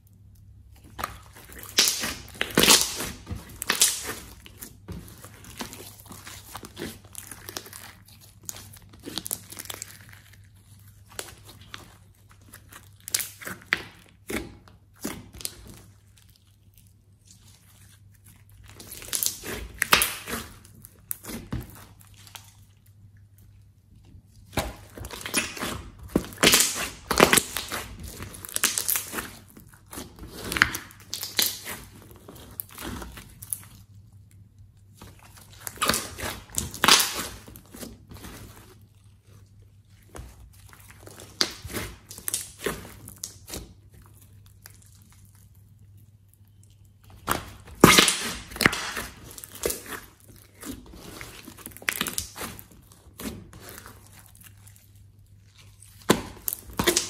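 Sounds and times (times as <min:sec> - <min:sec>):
slime squelching and crackling: 0:00.0 - 0:57.0.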